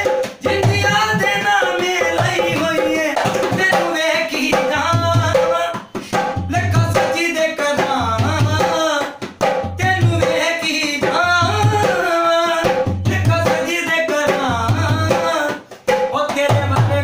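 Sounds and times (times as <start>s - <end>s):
dholak bass strokes: 0.0s - 17.0s
man singing: 0.0s - 17.0s.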